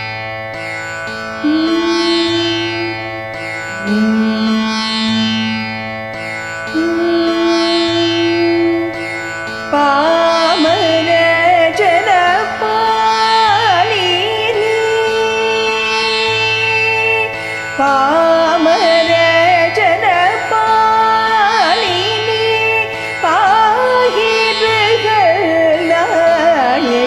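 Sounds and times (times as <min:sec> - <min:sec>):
ornamented melodic line: 0:00.0 - 0:27.0.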